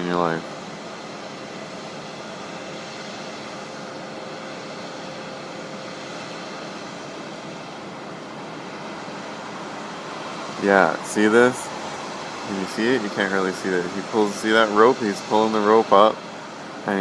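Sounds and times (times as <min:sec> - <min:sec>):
faint engine tone: 0:00.0 - 0:17.0
machinery drone hiss: 0:00.0 - 0:17.0.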